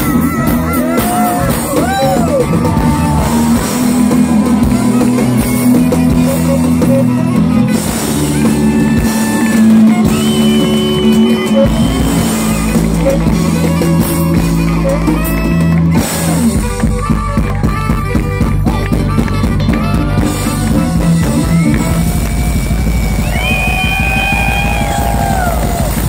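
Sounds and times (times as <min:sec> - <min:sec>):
saxophone notes: 0:00.0 - 0:24.8
bass guitar: 0:00.0 - 0:26.0
drum kit beat: 0:00.0 - 0:26.0
electric guitar: 0:00.0 - 0:26.0.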